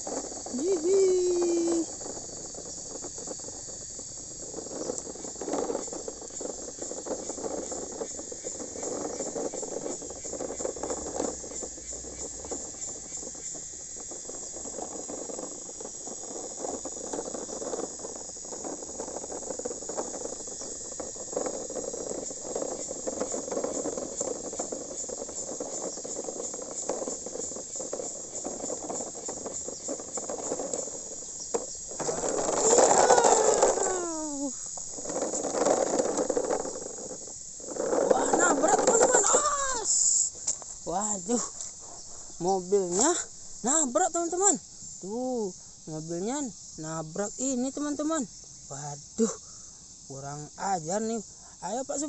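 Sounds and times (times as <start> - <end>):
toy truck wheels on pavement: 0.0 - 48.4
insects trilling: 0.0 - 52.0.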